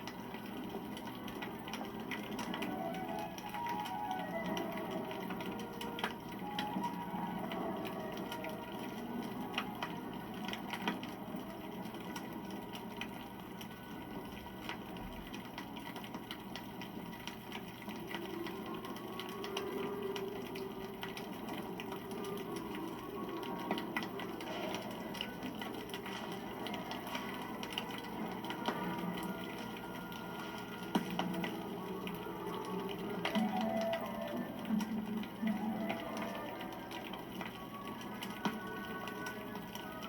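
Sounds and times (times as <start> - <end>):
campfire flame rushing: 0.0 - 40.0
crackles and pops of burning wood: 0.0 - 40.0.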